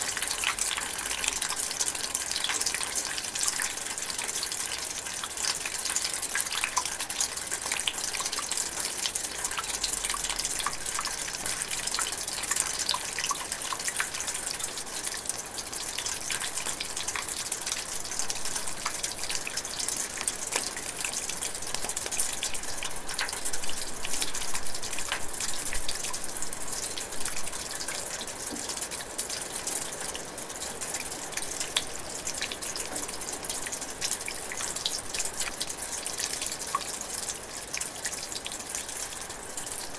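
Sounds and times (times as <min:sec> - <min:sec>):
light rain in forest: 0:00.0 - 0:39.9.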